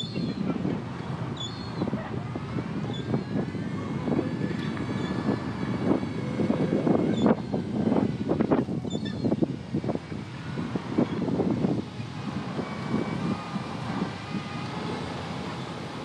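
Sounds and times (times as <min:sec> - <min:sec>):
faint whine: 0:00.0 - 0:16.0.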